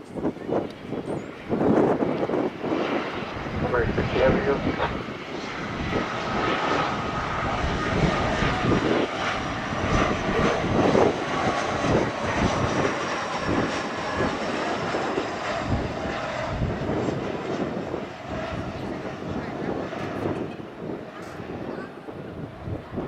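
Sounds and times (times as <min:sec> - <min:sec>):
high turbine whine: 0:00.0 - 0:23.0
jet engines roaring: 0:00.0 - 0:23.0.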